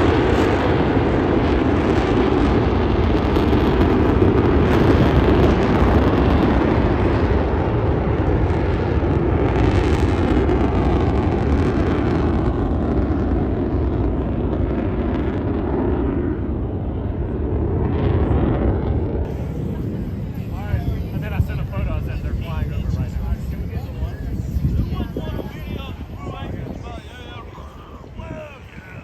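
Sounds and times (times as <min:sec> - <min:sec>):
jet engines passing: 0:00.0 - 0:29.0.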